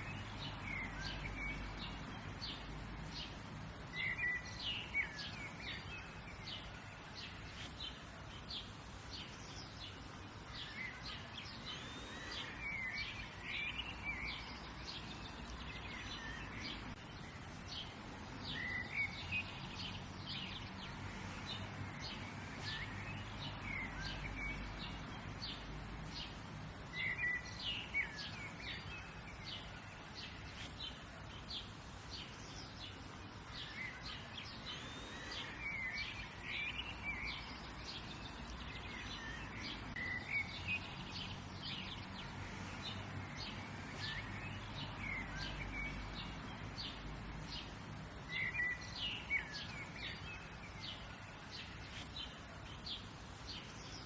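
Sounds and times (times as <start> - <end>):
birds chirping: 0.0 - 54.0
low background hiss: 0.0 - 54.0.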